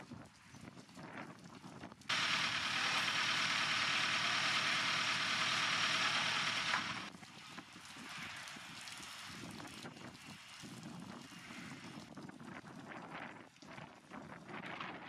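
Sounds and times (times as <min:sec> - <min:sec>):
water jets spraying on steel hull: 0:02.0 - 0:14.2.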